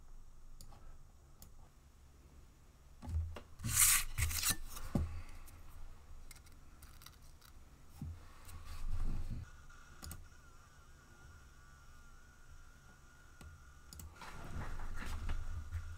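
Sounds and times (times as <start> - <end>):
faint steady whine: 0.0 - 15.9.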